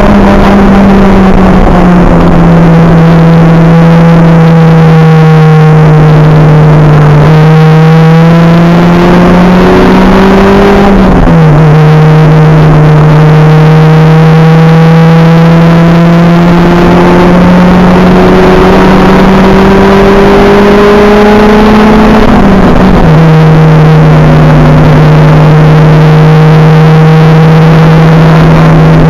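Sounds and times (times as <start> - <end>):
race car engine at full throttle: 0.0 - 29.0.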